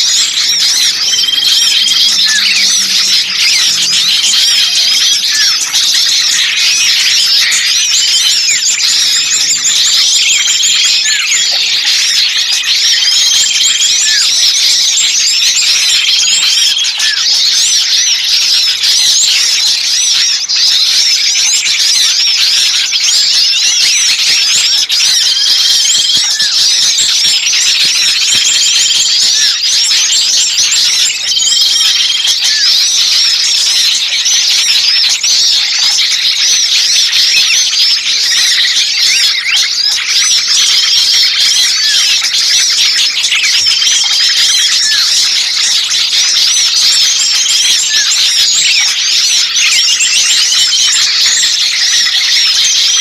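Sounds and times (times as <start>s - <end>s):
songbirds chattering and chirping: 0.0s - 53.0s.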